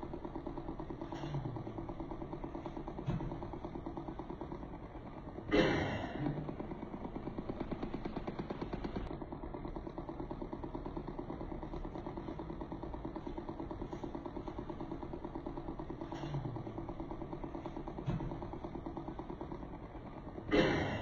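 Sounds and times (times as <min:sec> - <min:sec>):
massage gun motor pulsing: 0:00.0 - 0:21.0.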